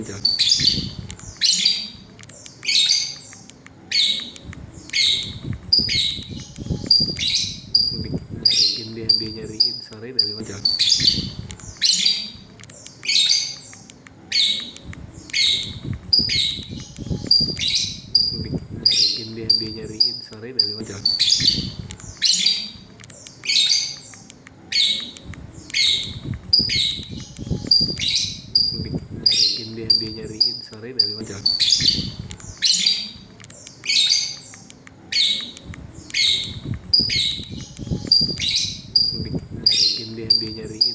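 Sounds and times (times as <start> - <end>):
lovebird chirping: 0.0 - 40.9.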